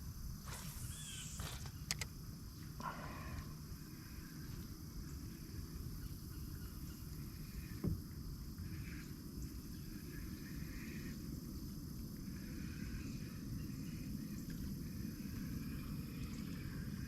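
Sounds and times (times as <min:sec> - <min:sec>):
high-pitched insect drone: 0:00.0 - 0:02.1, 0:02.8 - 0:17.0.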